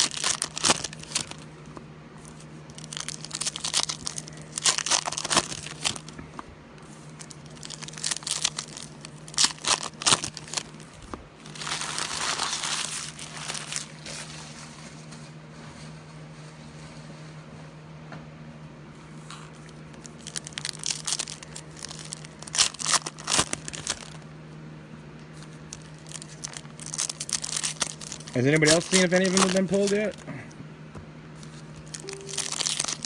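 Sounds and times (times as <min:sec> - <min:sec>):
foil wrappers crinkling and tearing: 0:00.0 - 0:15.2, 0:19.3 - 0:24.3, 0:25.3 - 0:30.4, 0:31.4 - 0:33.0
faint steady hum: 0:00.0 - 0:33.0.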